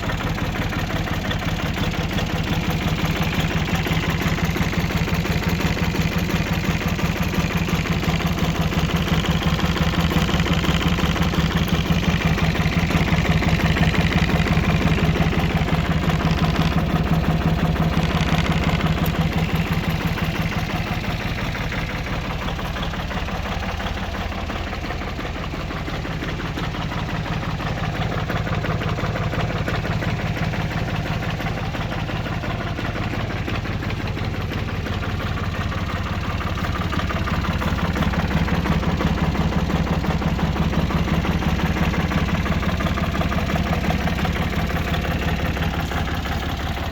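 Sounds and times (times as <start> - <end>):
tractor diesel engine idling: 0.0 - 46.9.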